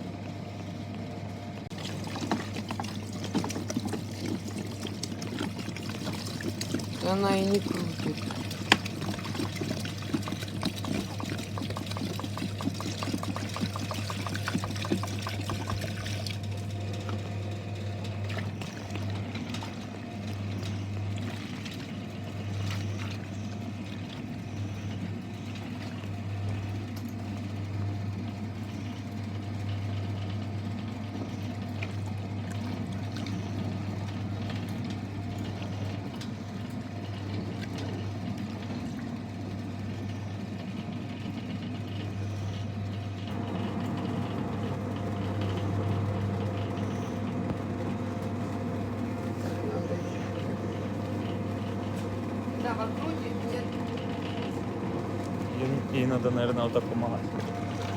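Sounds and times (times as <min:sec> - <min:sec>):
washing machine low hum: 0:00.0 - 0:57.9
water rushing into washing machine: 0:01.7 - 0:57.9.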